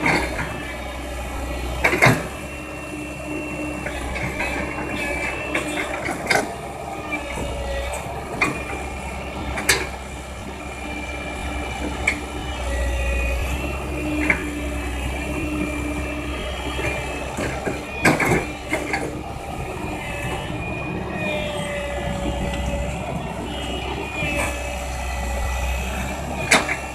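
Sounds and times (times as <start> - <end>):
excavator engine drone: 0.0 - 26.9
high metallic squeals: 0.0 - 26.9.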